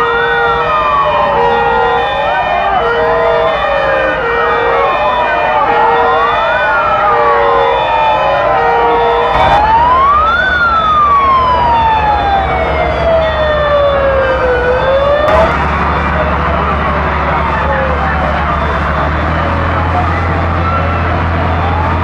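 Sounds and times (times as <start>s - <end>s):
fire engine sirens wailing: 0.0s - 22.0s
pulsing siren tone: 0.0s - 22.0s.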